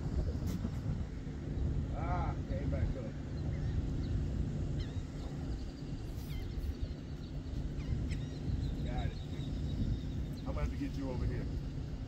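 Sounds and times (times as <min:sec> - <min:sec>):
low outdoor rumble: 0:00.0 - 0:12.0
small birds chirping: 0:01.5 - 0:12.0.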